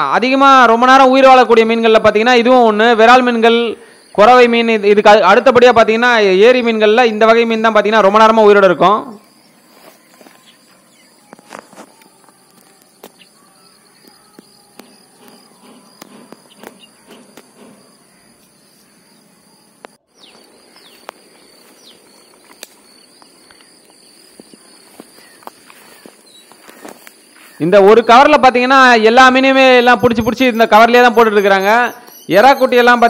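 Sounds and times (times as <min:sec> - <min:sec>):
high insect trill: 0:02.2 - 0:33.0.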